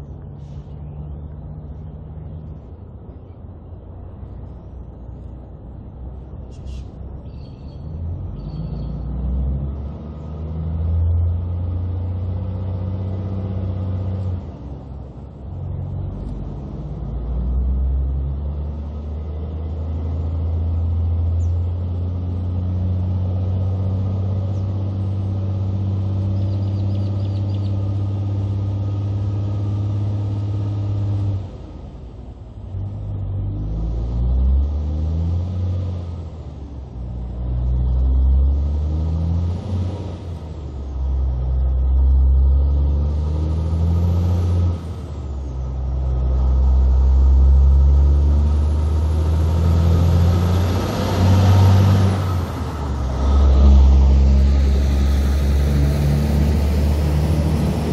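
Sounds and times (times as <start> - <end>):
diesel engine pulling away: 0.0 - 57.9.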